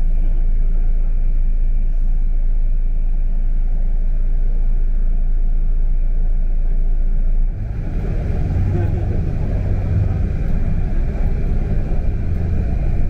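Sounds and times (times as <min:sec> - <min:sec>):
vehicle engine rumble from inside: 0:00.0 - 0:13.0.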